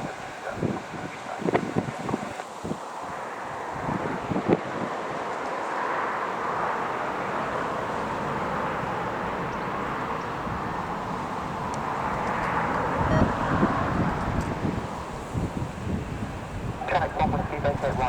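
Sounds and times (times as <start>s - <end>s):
jet engine rushing: 0.0s - 18.0s
wind buffeting microphone: 0.0s - 18.0s.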